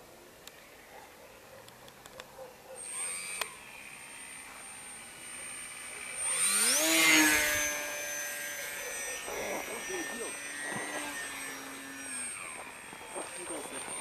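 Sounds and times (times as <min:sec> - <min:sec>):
model airplane motor whining: 0:02.8 - 0:14.0.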